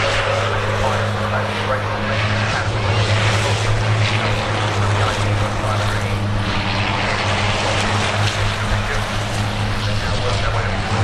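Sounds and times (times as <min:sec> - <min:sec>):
diesel truck engines droning: 0:00.0 - 0:11.0.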